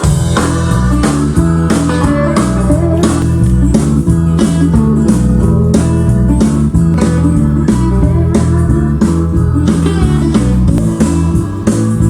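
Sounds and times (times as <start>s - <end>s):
rock music over loudspeakers: 0.0s - 12.0s.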